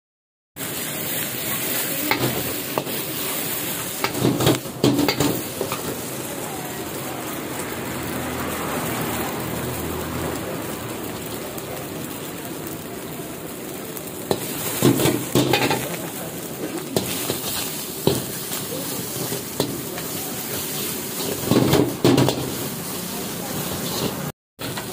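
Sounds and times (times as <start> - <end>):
ladle clanking and scraping wok: 0.6 - 10.1, 13.5 - 24.9
egg sizzling in hot oil: 0.6 - 24.9.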